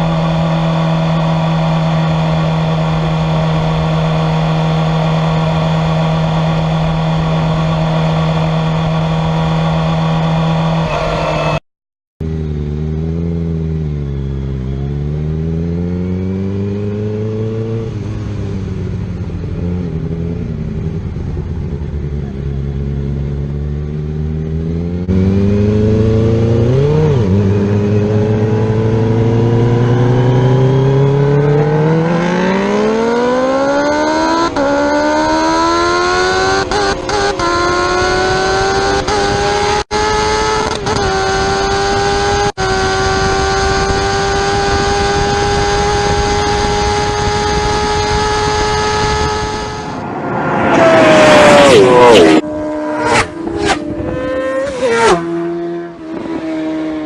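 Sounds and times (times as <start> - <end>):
motorcycle engine revving and accelerating: 0.0 - 11.6, 12.2 - 57.0.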